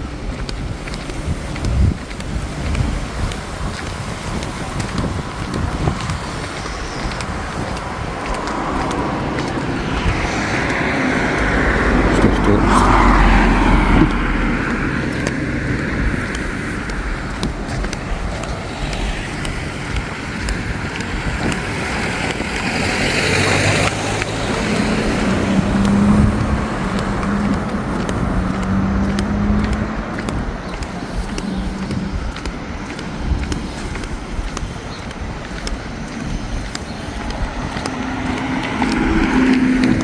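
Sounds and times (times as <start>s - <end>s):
low steady engine hum: 0.0s - 40.0s
road traffic passing: 0.0s - 40.0s.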